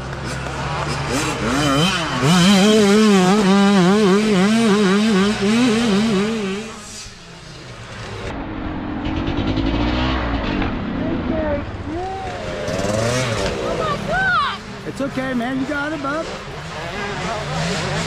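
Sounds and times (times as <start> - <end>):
dirt bike engine revving: 0.0 - 18.0
second dirt bike engine: 0.0 - 18.0.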